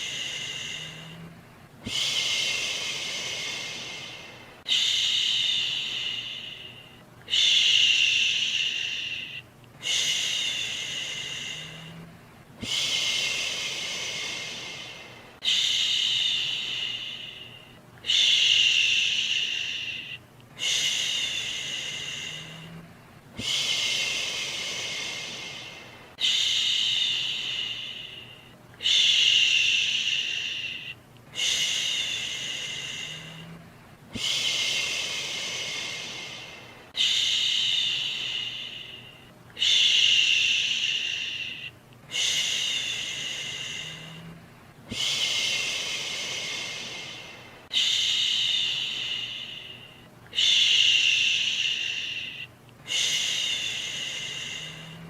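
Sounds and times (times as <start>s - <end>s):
person shushing: 0.0s - 55.0s.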